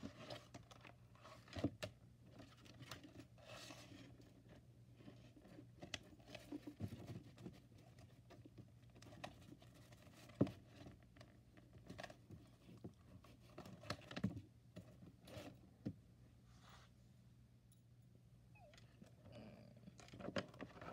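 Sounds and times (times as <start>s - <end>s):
faint low hum: 0.0s - 20.9s.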